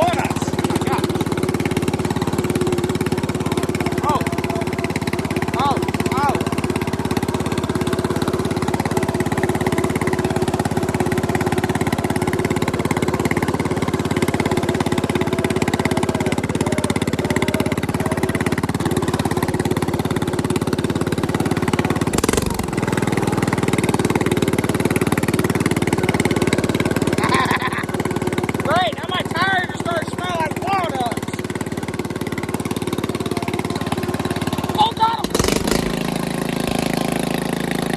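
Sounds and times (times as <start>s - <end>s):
mower engine running: 0.0s - 37.9s.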